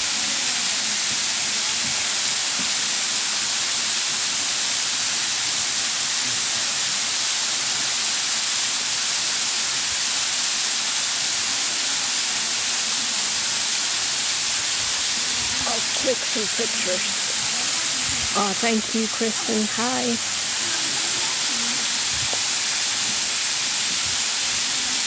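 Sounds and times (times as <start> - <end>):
waterfall rushing water: 0.0 - 25.0.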